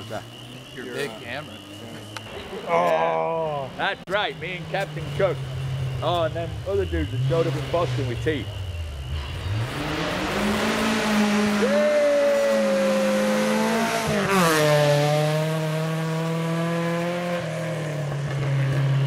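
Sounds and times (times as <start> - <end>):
gravel and tyre noise: 0.0 - 19.0
rally car engine revving: 3.6 - 19.0.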